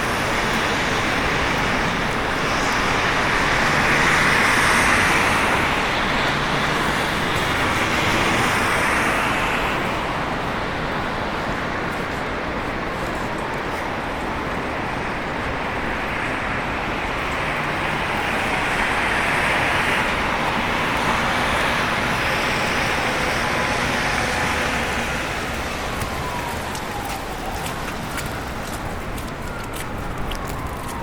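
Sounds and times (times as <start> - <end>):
vehicle tyre noise passing: 0.0 - 31.0.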